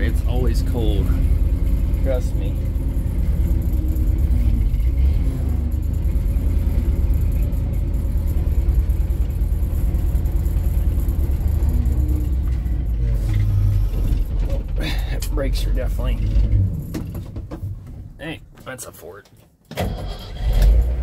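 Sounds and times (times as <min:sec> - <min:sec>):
truck engine idling: 0:00.0 - 0:18.5.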